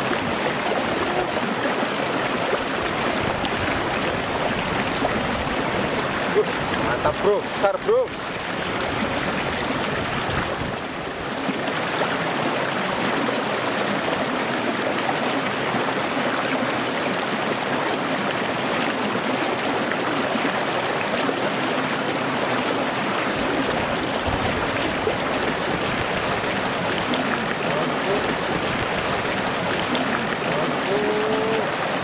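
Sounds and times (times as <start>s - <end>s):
river flowing over rocks: 0.0s - 32.0s.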